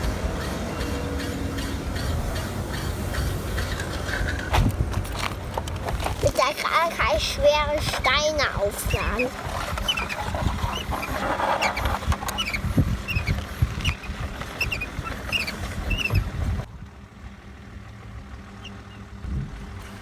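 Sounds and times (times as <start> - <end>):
toy trucks and stones knocking: 0.1 - 16.7.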